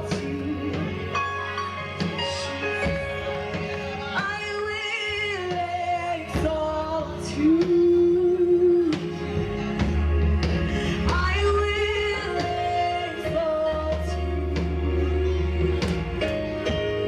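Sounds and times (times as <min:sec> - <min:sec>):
woman singing lead: 0:00.0 - 0:15.4
live band playing: 0:00.0 - 0:17.0.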